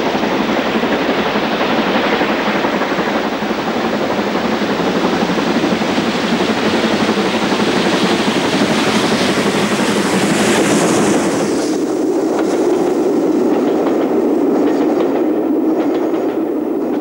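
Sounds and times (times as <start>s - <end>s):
steam locomotive exhaust and hiss: 0.0s - 17.0s
train wheels clattering over rail joints: 0.0s - 17.0s.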